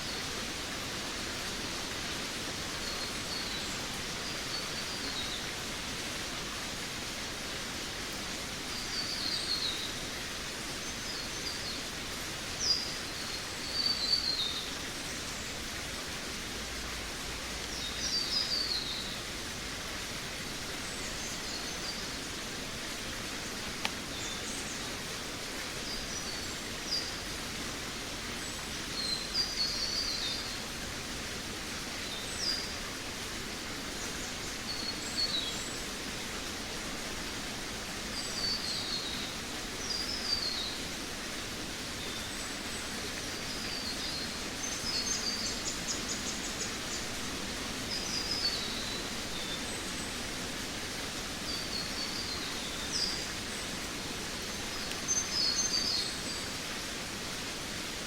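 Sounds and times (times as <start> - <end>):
songbirds singing: 0.0 - 7.2, 7.8 - 30.9, 31.7 - 57.0
background hiss: 0.0 - 58.0.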